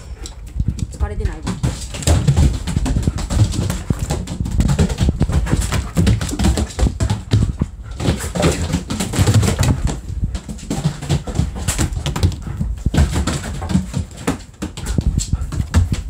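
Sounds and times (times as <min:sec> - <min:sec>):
paw thuds and scrabbles on wood: 0:00.2 - 0:16.0.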